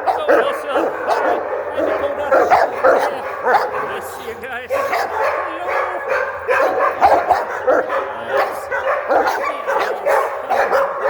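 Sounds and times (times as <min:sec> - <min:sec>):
dogs barking and whining: 0:00.0 - 0:11.0.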